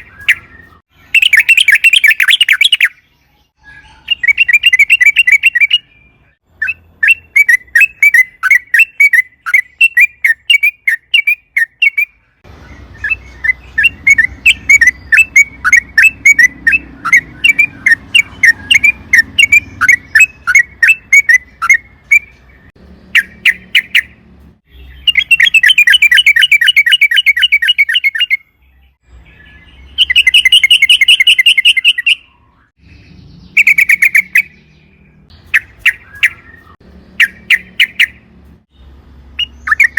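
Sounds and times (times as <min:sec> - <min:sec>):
bird singing chirpy notes: 0:00.0 - 0:39.9
fast dense bird trills: 0:00.0 - 0:39.9.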